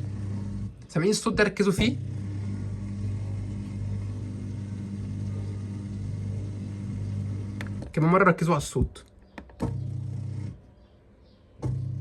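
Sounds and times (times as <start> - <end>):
drain pump humming: 0.0 - 10.6, 11.6 - 12.0.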